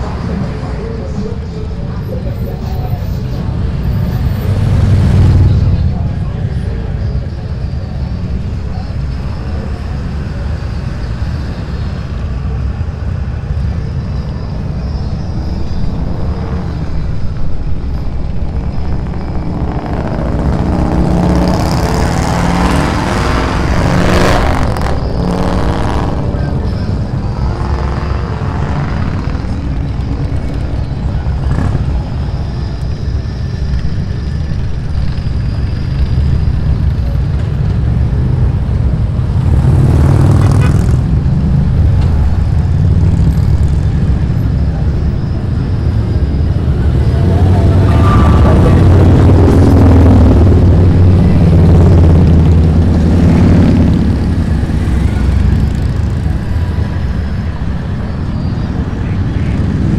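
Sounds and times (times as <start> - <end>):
motorcycle engines rumbling: 0.0 - 59.9.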